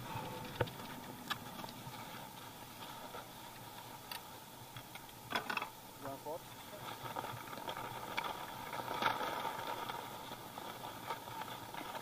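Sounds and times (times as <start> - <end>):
skis sliding over snow: 0.0 - 5.0, 5.9 - 12.0.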